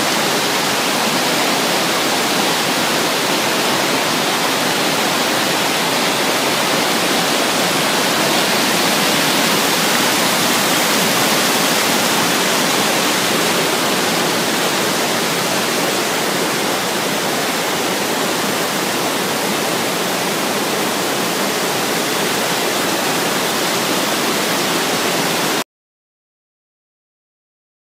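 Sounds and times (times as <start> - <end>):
stream rushing over boulders: 0.0 - 25.6.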